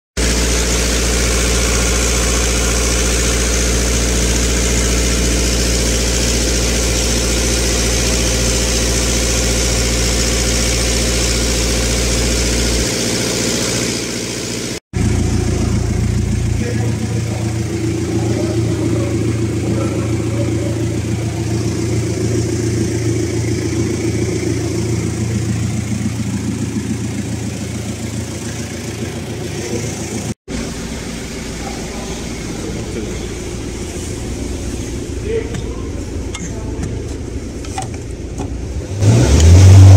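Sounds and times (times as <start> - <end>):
car engine idling: 0.2 - 39.9.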